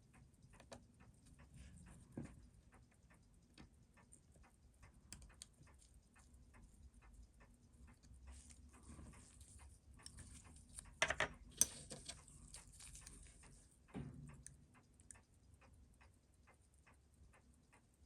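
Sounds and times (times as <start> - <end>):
faint even ticking: 0.0 - 18.0.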